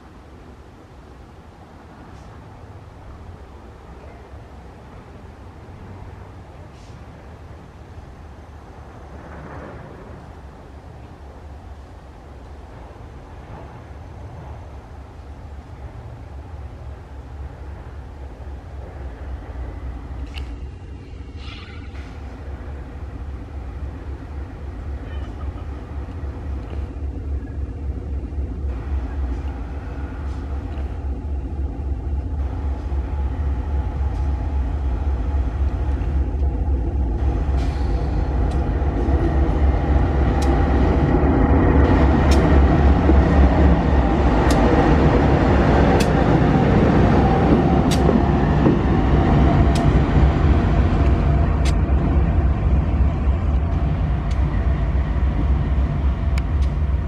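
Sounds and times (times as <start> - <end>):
locomotive engine rumbling: 0.0 - 57.0.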